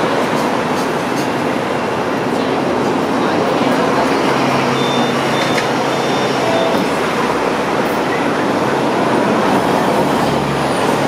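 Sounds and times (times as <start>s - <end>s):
passing buses and cars: 0.0s - 11.0s
tram rumble and hum: 0.0s - 11.0s.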